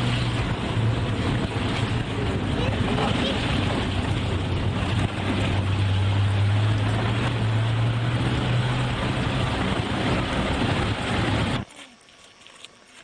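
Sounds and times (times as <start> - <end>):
road noise inside car: 0.0 - 11.6
low engine drone: 0.0 - 12.0.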